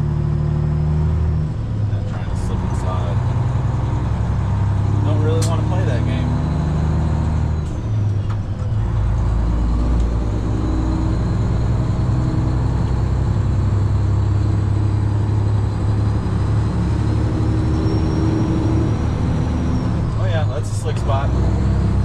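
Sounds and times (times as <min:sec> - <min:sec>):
road noise: 0:00.0 - 0:22.0
truck diesel engine pulling steadily: 0:00.0 - 0:22.0.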